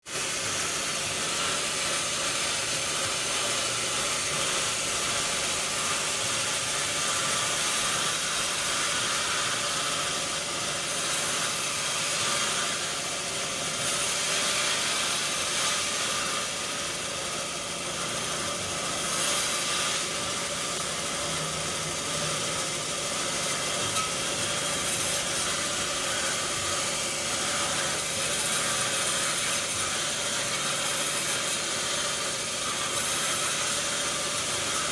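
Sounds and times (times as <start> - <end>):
sawmill machinery running: 0.0 - 34.9.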